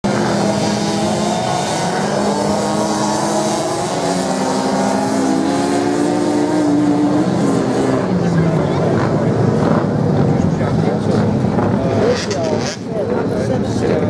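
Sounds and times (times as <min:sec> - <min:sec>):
motorcycle engines racing: 0:00.0 - 0:14.0.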